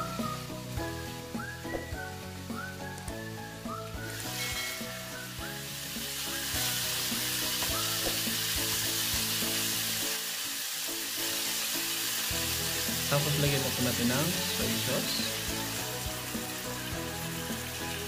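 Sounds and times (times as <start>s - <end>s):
background music: 0.0s - 18.0s
chicken sizzling in oil: 0.0s - 18.0s.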